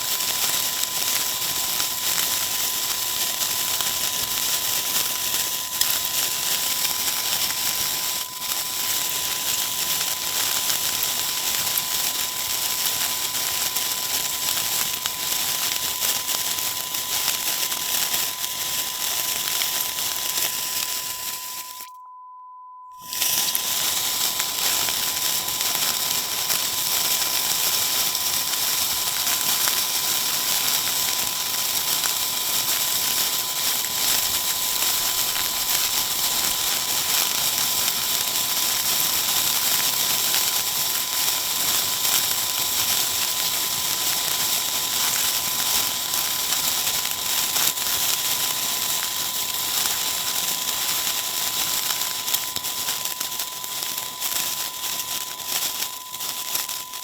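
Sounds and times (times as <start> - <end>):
spray firework hissing and crackling: 0.0 - 21.9, 23.0 - 57.0.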